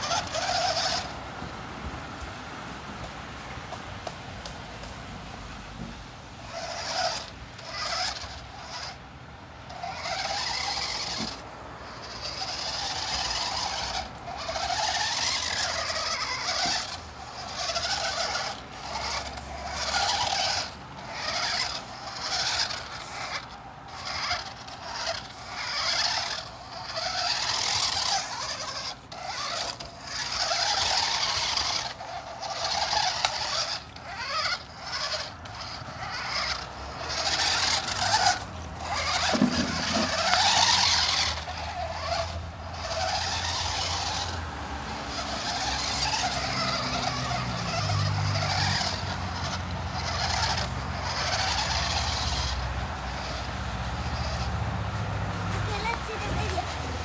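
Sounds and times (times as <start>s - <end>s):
toy car motors and gears whirring: 0.0s - 57.0s.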